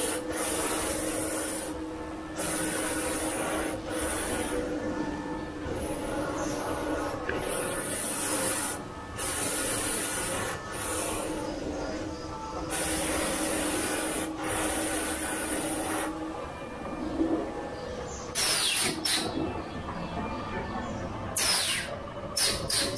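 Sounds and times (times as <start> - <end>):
steady low machine hum: 0.0 - 22.4.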